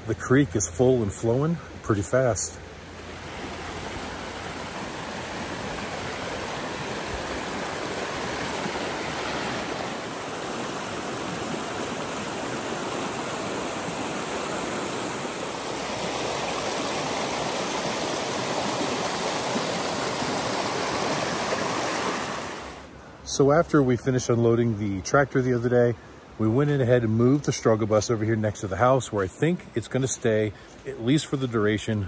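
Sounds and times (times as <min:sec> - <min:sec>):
creek rushing over rocks: 0:00.0 - 0:32.0.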